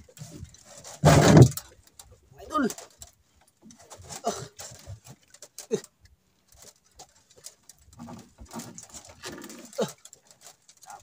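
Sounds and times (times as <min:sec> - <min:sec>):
faint knocks and rustles: 0:00.0 - 0:11.0.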